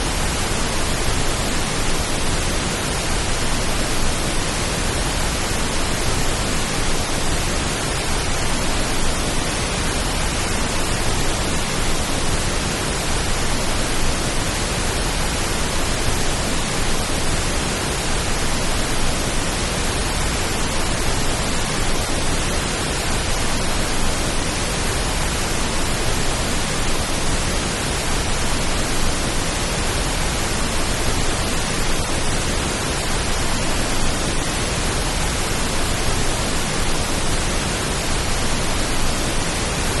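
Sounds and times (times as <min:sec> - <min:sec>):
steady pink noise hiss: 0:00.0 - 0:40.0.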